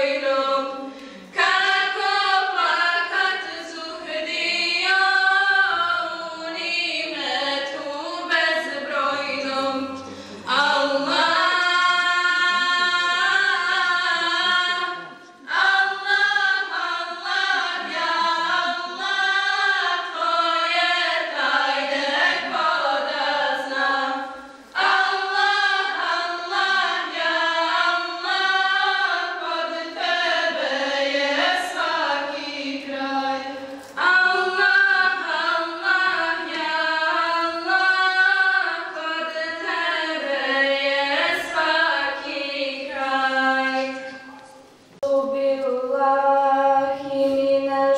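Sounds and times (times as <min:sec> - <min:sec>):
choir singing devotional song: 0:00.0 - 0:44.4, 0:45.0 - 0:47.9.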